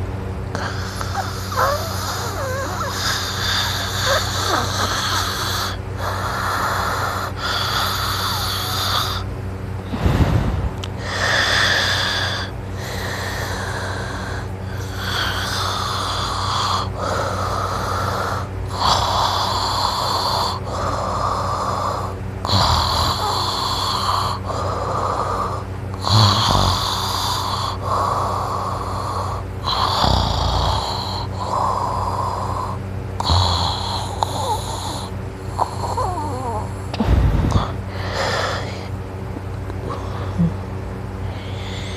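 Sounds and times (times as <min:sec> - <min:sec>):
steady low hum: 0:00.0 - 0:41.9
person snoring loudly: 0:00.5 - 0:09.2, 0:09.8 - 0:38.9, 0:39.8 - 0:40.6, 0:41.3 - 0:41.9.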